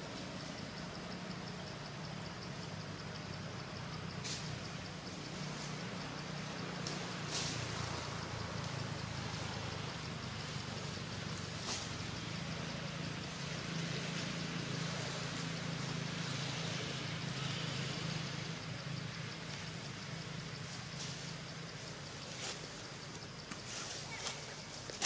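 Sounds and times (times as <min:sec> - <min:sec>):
low engine hum: 0:00.0 - 0:25.0
outdoor background hiss: 0:00.0 - 0:25.0.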